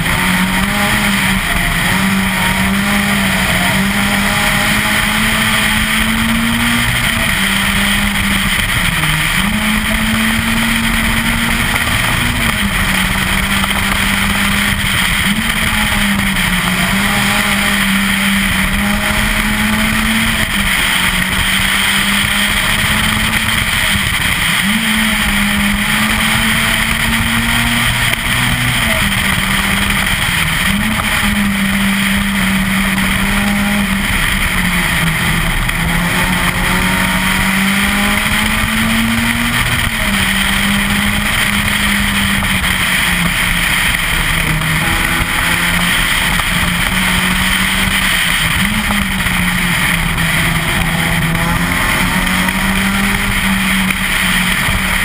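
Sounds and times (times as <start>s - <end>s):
car engine revving high: 0.0s - 55.0s
tyre and wind noise: 0.0s - 55.0s.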